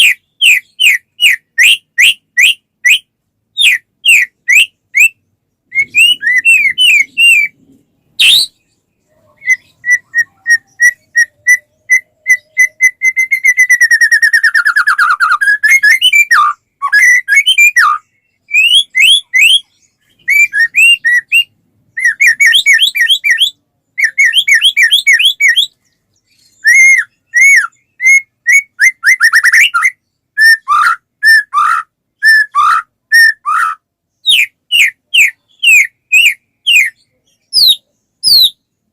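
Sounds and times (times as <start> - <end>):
bird singing whistled phrases: 0.0 - 7.6, 8.2 - 38.7.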